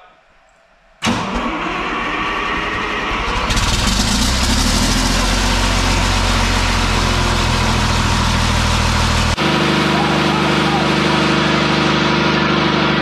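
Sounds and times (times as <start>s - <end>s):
diesel generator starting and idling: 1.0s - 13.0s.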